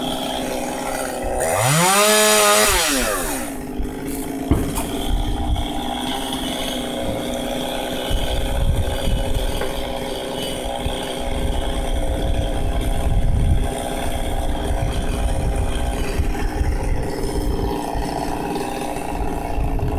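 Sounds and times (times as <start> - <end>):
chainsaw idling: 0.0 - 19.9.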